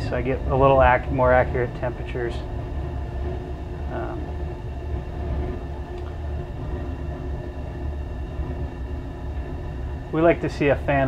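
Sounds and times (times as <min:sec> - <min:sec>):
gas furnace rumbling and humming: 0:00.0 - 0:11.0.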